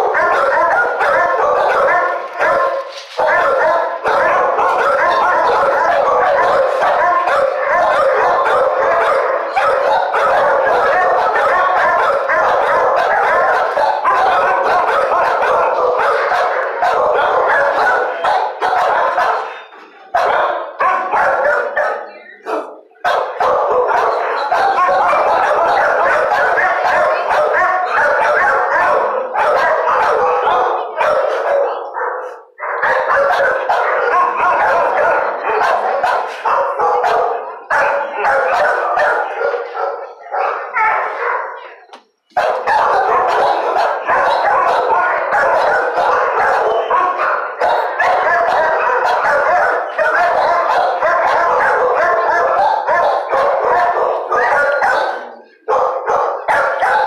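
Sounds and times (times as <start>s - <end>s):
many dogs barking: 0.0s - 57.0s.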